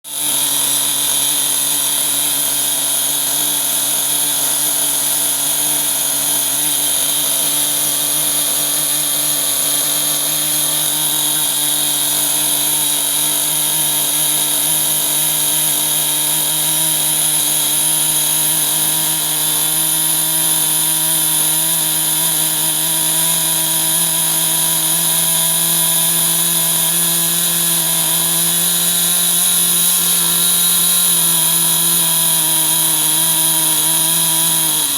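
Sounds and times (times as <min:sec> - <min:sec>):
model engine buzzing at high revs: 0:00.0 - 0:34.9.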